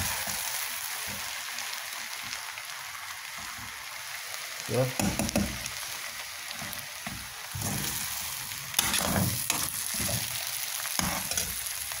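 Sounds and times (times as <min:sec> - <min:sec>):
noodles sizzling in a hot pan: 0:00.0 - 0:12.0.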